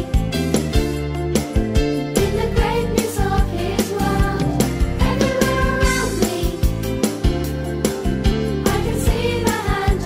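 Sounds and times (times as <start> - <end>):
bass: 0.0 - 10.0.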